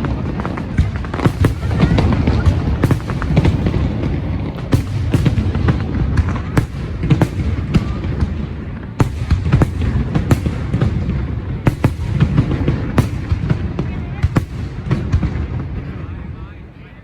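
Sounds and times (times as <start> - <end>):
fireworks bangs: 0.0 - 16.4.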